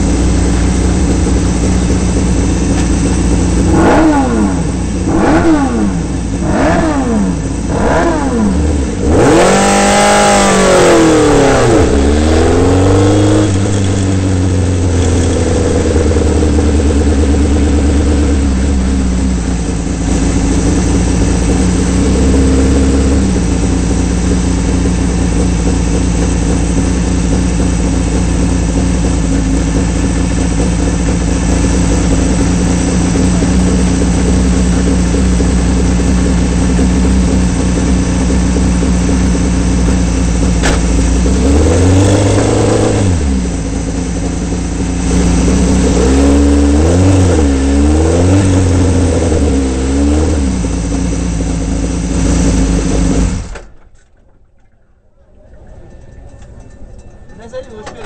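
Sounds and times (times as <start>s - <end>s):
racing engine idling and revving: 0.0s - 53.8s.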